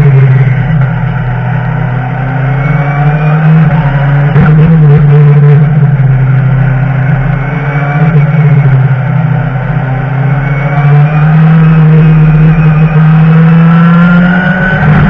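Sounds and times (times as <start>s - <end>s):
race car engine running hard: 0.0s - 15.0s.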